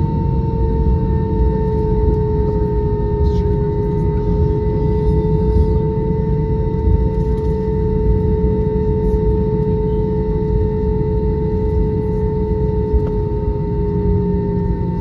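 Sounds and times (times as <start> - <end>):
jet engines idling in cabin: 0.0 - 15.0.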